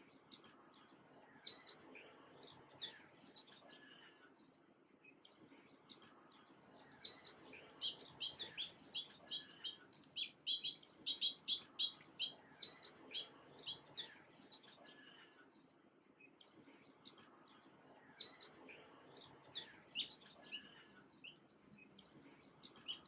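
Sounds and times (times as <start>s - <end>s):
faint background noise: 0.0s - 23.0s
small songbirds chirping: 0.0s - 23.0s.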